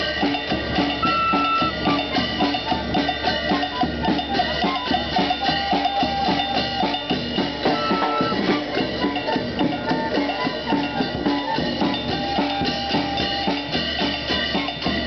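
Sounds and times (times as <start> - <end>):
snare and bass drum beat: 0.0 - 15.0
flute melody: 1.0 - 13.8.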